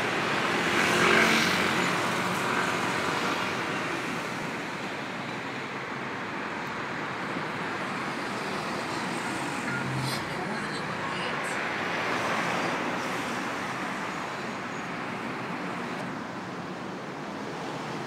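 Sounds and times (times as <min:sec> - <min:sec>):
background street traffic: 0:00.0 - 0:18.0.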